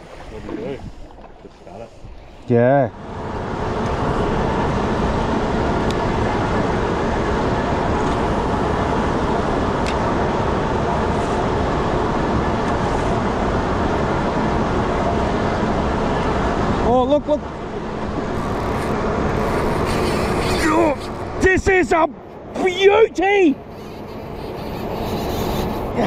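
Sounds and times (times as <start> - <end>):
boat motor drone: 0.0 - 26.0
wind: 0.0 - 26.0.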